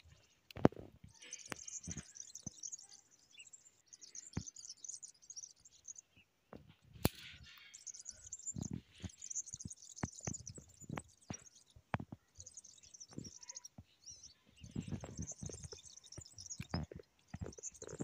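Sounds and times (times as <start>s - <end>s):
small birds twittering: 0.0s - 18.0s.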